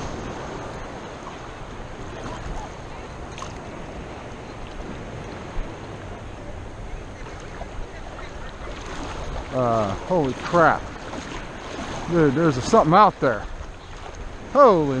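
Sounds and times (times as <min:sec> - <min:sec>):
surf washing on beach: 0:00.0 - 0:15.0
wind on microphone: 0:00.0 - 0:15.0.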